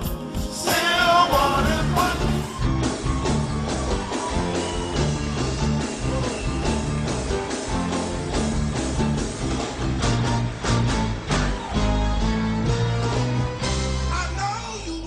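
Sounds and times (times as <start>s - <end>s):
steady drum beat: 0.0s - 14.0s
bass: 0.0s - 15.0s
guitar: 0.0s - 15.0s.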